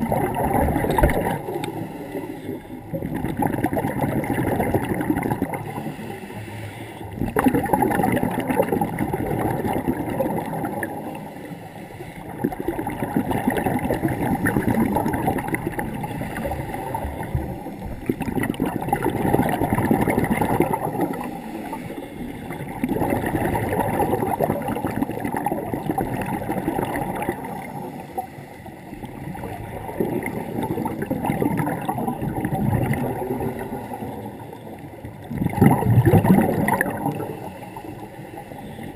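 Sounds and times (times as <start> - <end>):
underwater air bubbling: 0.0 - 38.9.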